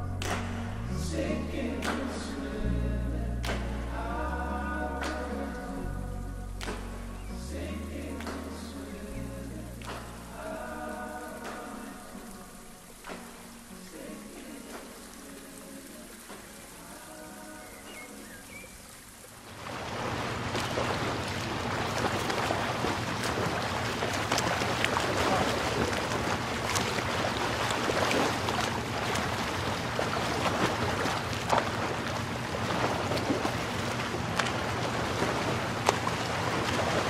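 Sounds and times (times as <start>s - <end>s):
waves washing on shore: 6.6s - 37.0s.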